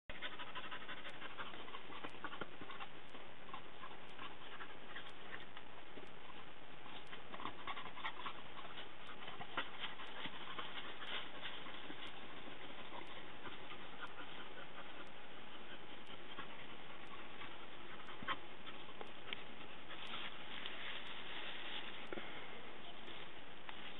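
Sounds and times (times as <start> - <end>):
dogs panting: 0.1 - 22.2
dogs sniffing: 0.1 - 22.2
rustles and clicks: 0.1 - 23.9
steady hiss: 0.1 - 23.9.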